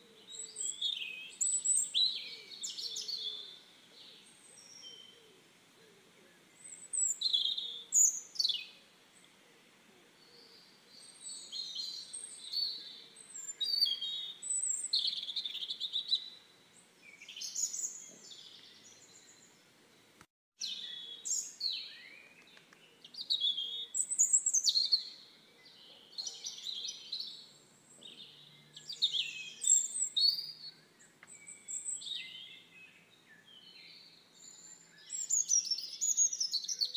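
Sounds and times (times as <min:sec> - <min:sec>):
birds chirping and singing: 0:00.0 - 0:36.9.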